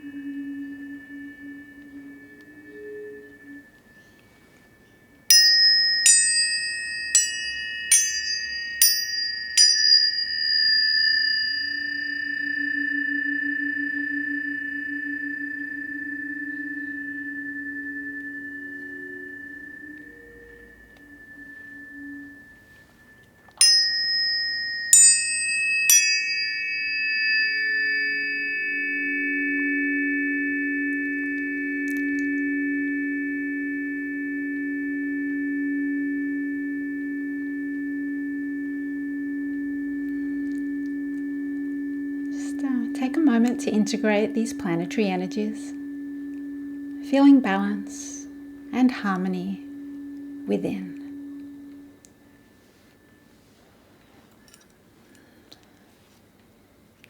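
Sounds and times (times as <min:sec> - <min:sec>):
tuning forks struck and ringing: 0:00.0 - 0:55.8
lower steady tones: 0:00.0 - 0:57.0.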